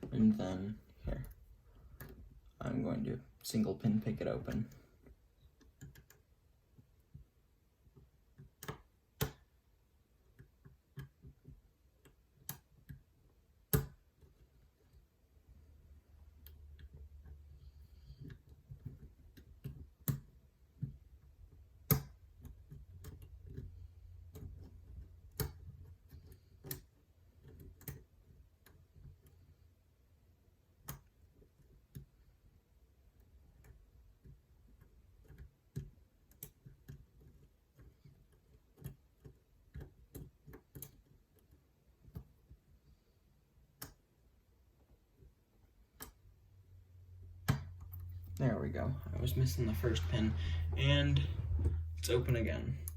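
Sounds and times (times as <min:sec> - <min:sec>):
faint low hum: 0:00.0 - 0:52.9.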